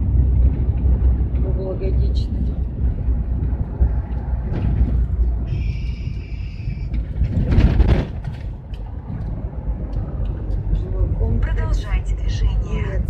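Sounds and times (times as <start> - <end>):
engine and road rumble in van: 0.0 - 13.0.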